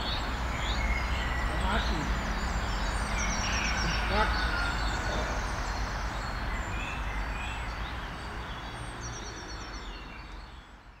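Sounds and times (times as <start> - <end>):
steady background rumble: 0.0 - 9.2
birds chirping and trilling: 0.0 - 11.0.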